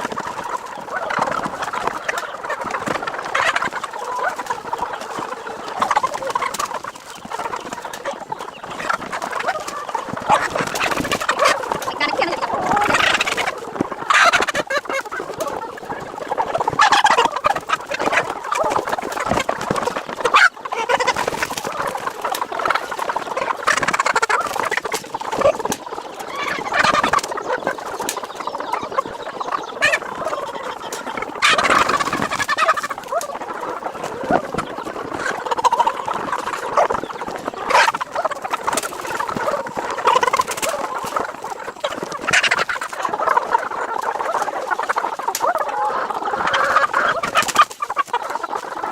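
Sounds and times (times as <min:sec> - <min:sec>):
chickens clucking and squawking: 0:00.0 - 0:48.9.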